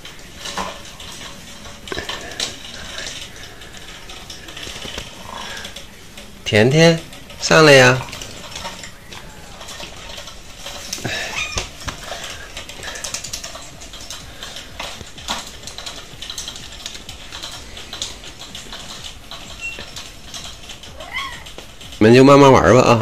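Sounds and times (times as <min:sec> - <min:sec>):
electric cat toy running: 0:00.0 - 0:22.7.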